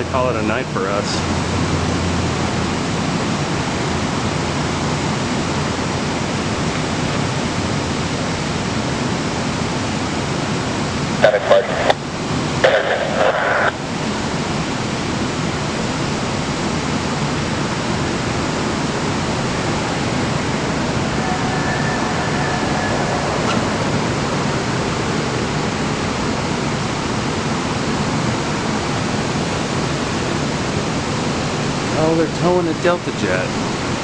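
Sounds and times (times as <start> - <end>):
strong wind buffeting microphone: 1.2 - 32.6.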